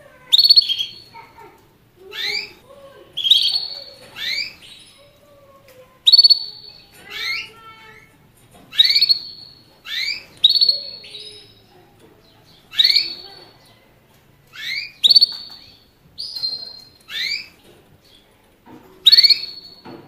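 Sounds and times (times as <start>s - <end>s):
canary calling: 0.0s - 18.3s, 19.0s - 20.0s.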